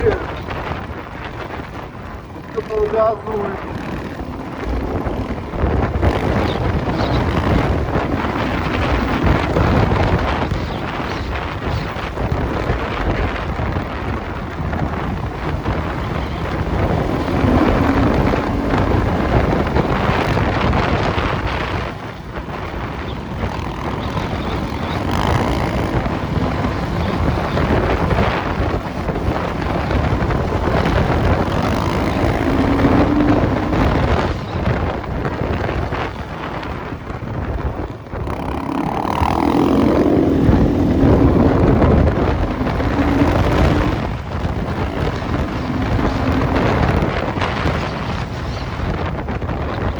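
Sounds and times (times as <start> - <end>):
motorcycle engine revving: 0.0 - 49.9
wind buffeting microphone: 0.0 - 49.9.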